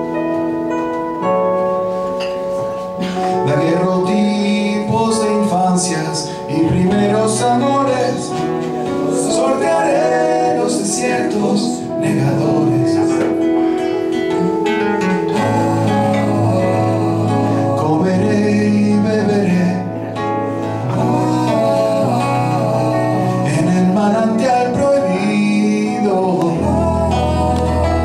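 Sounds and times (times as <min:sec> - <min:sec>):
classical guitar: 0:00.0 - 0:28.0
keyboard chords: 0:00.0 - 0:28.0
man singing: 0:03.1 - 0:28.0.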